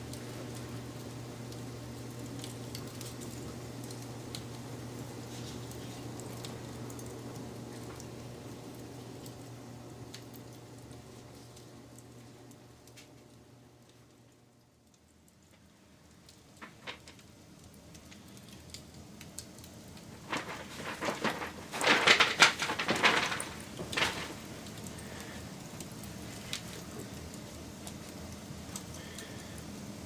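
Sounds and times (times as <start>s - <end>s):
fire hissing: 0.0s - 12.1s, 15.7s - 30.0s
wood fire crackling: 0.0s - 30.0s.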